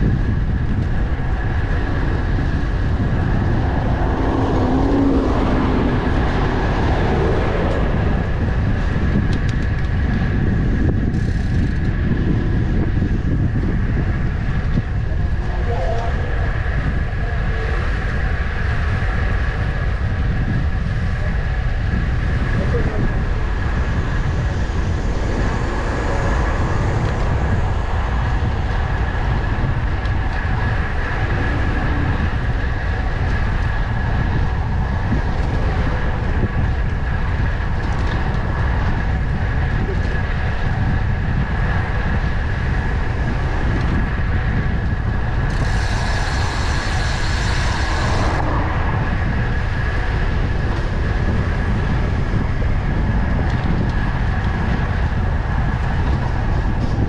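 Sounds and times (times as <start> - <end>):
city traffic: 0.0 - 57.0
wind rumbling on microphone: 0.0 - 57.0.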